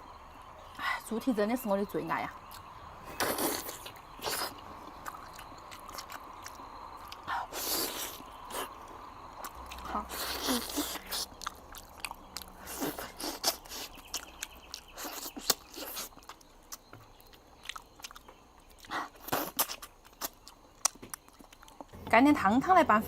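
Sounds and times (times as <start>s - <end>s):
chewing and biting food: 2.4s - 22.0s.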